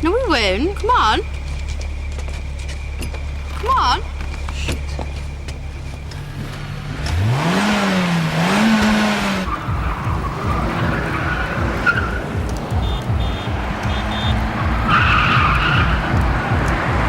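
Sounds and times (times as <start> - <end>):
car engine revving: 0.0 - 17.0
tyres skidding: 0.0 - 17.0.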